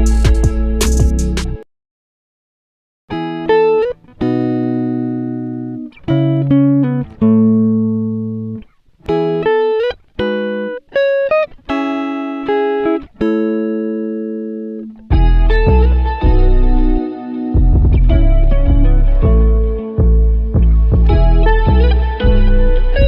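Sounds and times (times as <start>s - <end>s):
plucked guitar: 0.0s - 1.6s, 3.1s - 23.0s.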